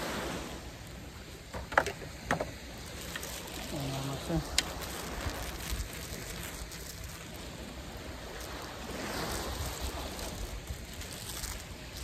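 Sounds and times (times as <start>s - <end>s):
small waves washing onto shore: 0.0s - 12.0s.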